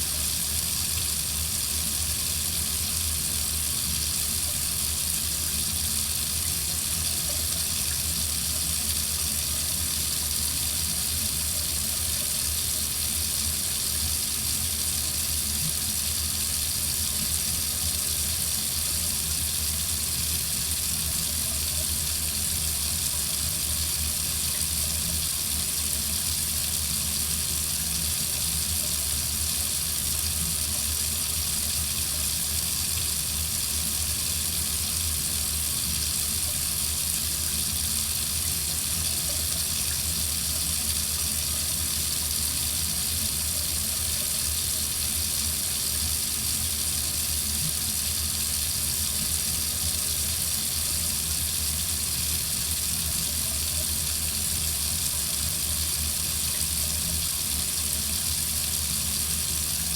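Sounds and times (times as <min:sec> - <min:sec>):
water running from faucet into sink: 0:00.0 - 0:59.9.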